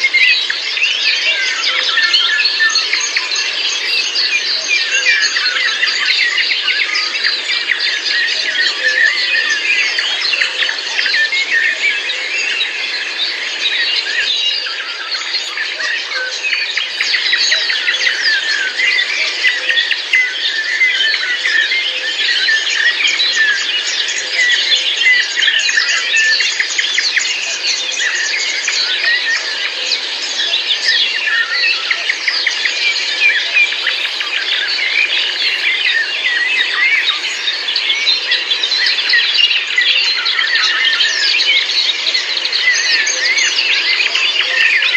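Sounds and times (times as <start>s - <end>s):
chorus of birds chirping: 0.0s - 44.9s.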